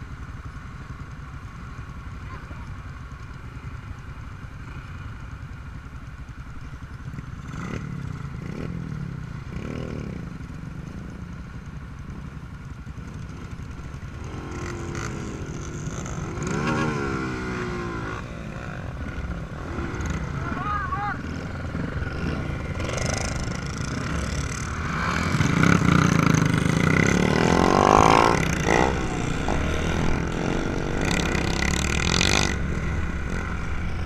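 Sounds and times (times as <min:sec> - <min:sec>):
motorcycle engine idling and revving: 0:00.0 - 0:34.0.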